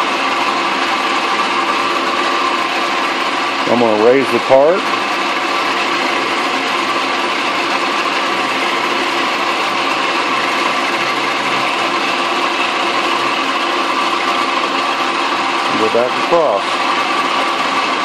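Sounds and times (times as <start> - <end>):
metal lathe milling: 0.0 - 18.0.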